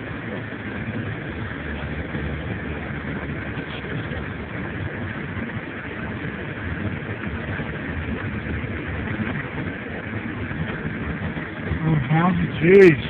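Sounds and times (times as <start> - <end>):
road noise: 0.0 - 13.0
vehicle engine: 0.0 - 13.0.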